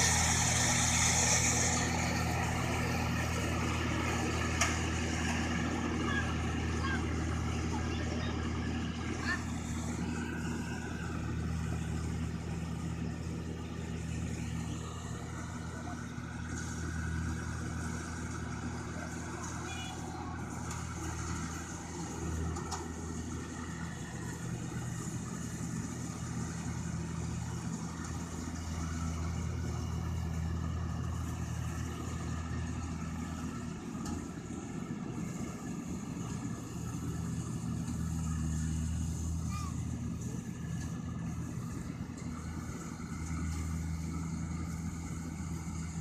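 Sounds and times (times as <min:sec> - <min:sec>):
combine harvester engine running: 0:00.0 - 0:46.0.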